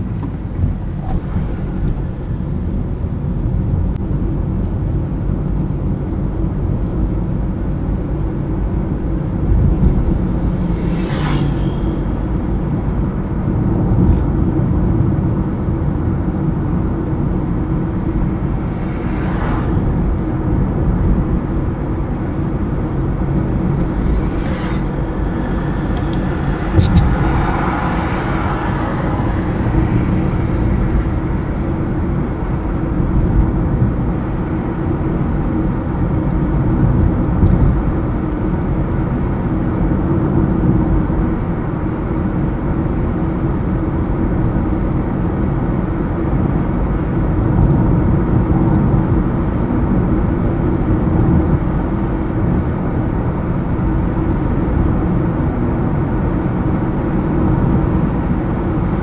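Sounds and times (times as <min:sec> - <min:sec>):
car engine hum: 0:00.0 - 0:59.0
tyres rumbling on asphalt: 0:00.0 - 0:59.0.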